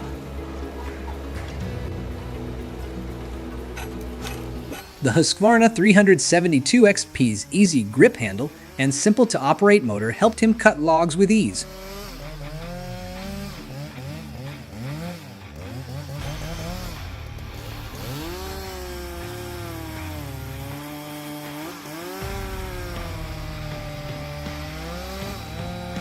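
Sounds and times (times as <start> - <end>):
chainsaw cutting logs: 0.0 - 26.0.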